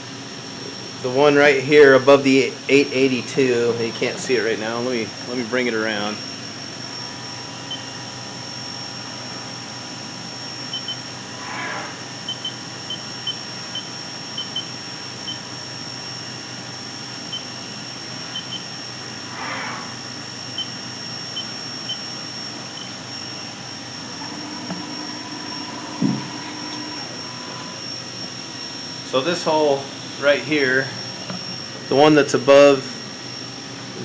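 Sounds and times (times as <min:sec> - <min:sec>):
machine hum and high whine: 0:00.0 - 0:34.0.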